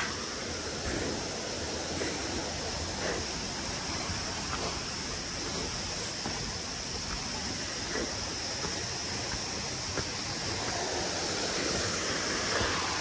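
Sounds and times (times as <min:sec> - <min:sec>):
waterfall rushing: 0:00.0 - 0:13.0
footsteps on concrete steps: 0:00.8 - 0:12.9.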